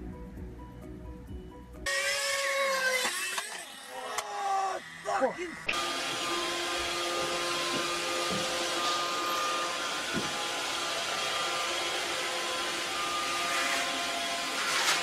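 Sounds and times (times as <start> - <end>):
robot vacuum cleaner whirring: 1.9 - 15.0.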